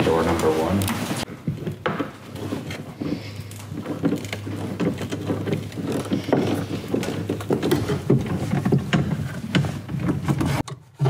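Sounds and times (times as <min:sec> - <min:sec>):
hands and parts rustling: 0:00.0 - 0:11.0.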